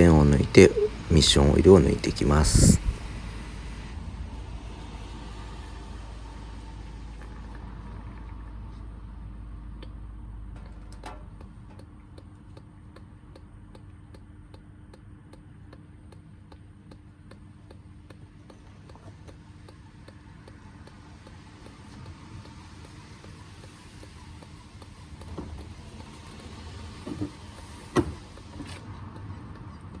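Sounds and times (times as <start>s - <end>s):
oil dripping: 2.9s - 30.0s.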